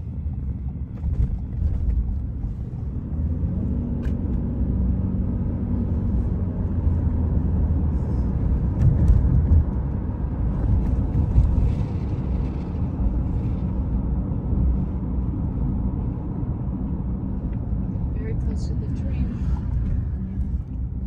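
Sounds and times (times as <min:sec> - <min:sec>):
car driving rumble: 0:00.0 - 0:21.0.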